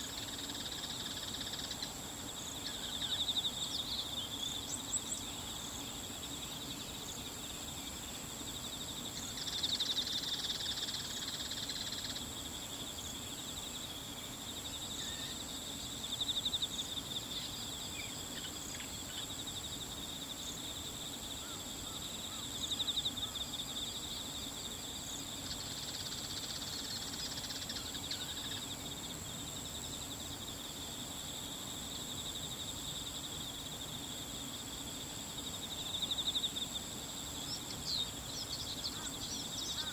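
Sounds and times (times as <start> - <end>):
insects trilling: 0.0 - 39.9
louder insect calls: 0.0 - 39.9.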